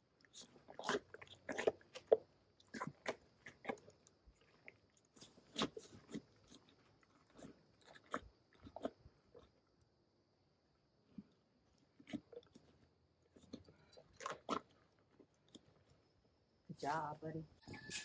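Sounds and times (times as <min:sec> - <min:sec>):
big cat chewing food: 0:00.0 - 0:16.7.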